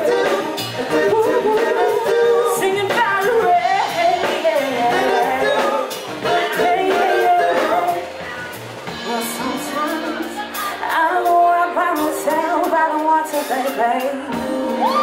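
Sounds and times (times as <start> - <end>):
woman singing into a microphone: 0.0 - 8.2, 8.9 - 15.0
electric bass: 0.0 - 13.0
drums: 0.0 - 15.0.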